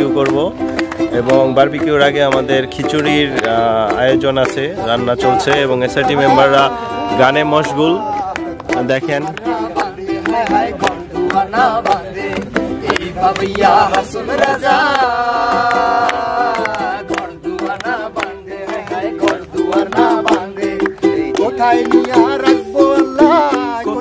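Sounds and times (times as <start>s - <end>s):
man singing: 0.0s - 24.0s
ukulele strumming: 0.0s - 24.0s.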